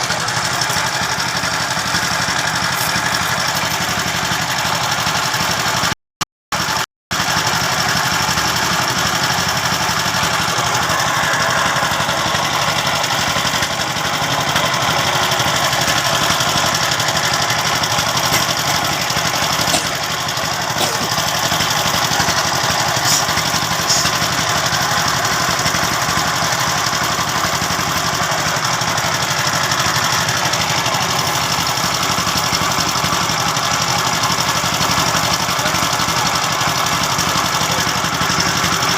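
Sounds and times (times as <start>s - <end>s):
engine running: 0.0s - 6.0s, 6.6s - 38.9s.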